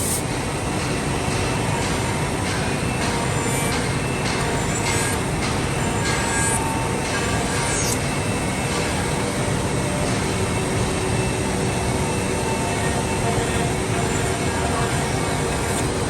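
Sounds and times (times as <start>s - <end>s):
faint whining tones: 0.2s - 16.0s
wood router running: 0.4s - 16.0s.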